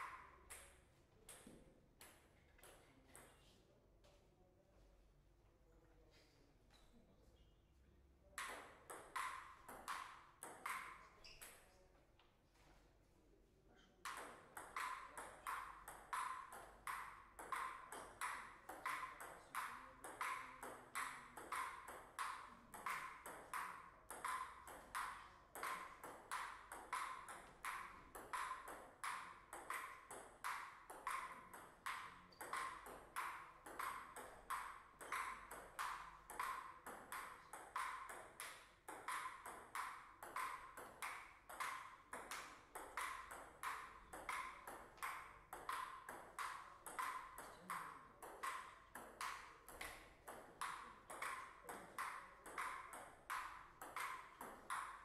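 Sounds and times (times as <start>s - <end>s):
table tennis ball clicking: 8.4s - 11.6s, 14.0s - 55.0s.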